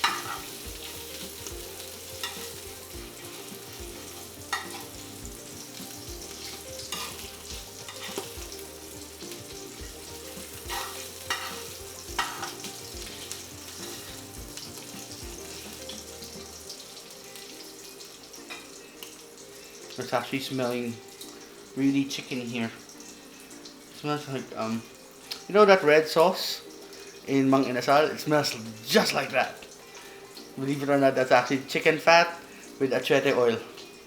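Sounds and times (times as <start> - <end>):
fat sizzling in a pot: 0.0 - 34.0.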